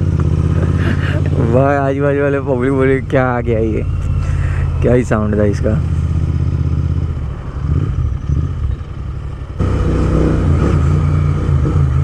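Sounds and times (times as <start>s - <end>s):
motorcycle engine with loud exhaust: 0.0s - 12.0s.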